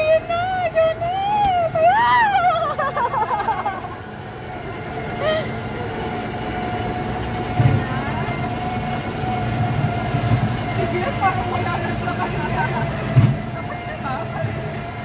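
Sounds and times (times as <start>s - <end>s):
ride train rumble: 0.0s - 15.0s
ride train whine: 0.0s - 15.0s.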